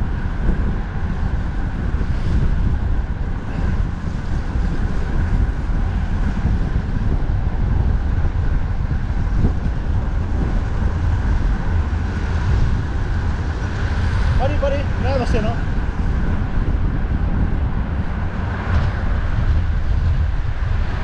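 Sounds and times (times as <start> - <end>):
road traffic noise: 0.0 - 21.0
wind rumbling on microphone: 0.0 - 21.0.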